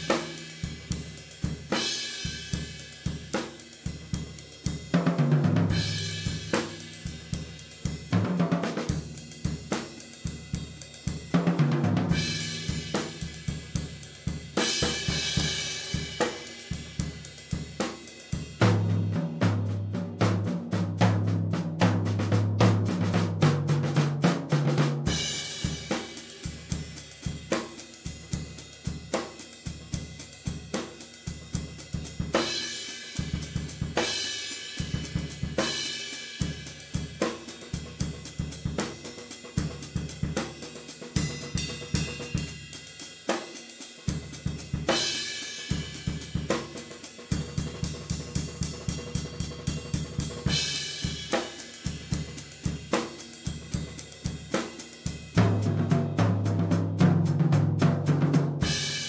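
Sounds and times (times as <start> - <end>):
drum kit beat: 0.0 - 59.0.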